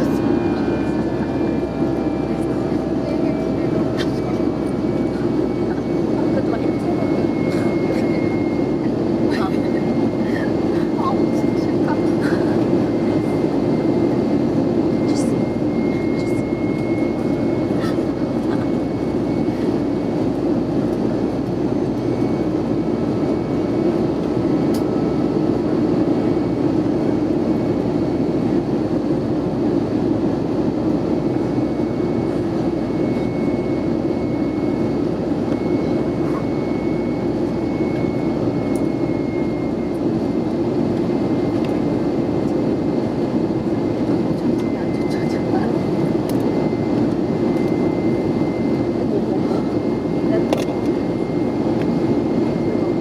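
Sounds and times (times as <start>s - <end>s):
airplane cabin roar: 0.0s - 53.0s.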